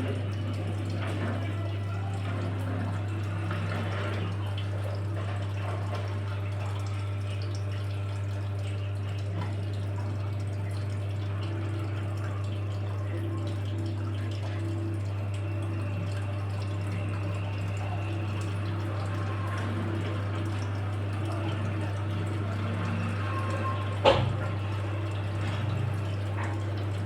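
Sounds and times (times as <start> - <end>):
low motor hum: 0.0 - 27.0
water sloshing in drum: 0.0 - 27.0.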